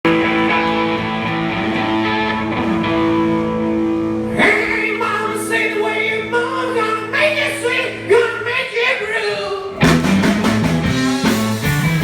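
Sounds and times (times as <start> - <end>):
overdriven electric guitar: 0.0 - 12.0.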